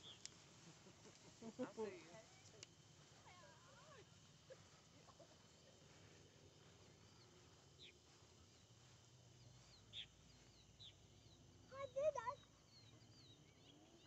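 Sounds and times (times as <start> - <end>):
faint bird chirps: 0.0 - 1.3, 2.3 - 14.0.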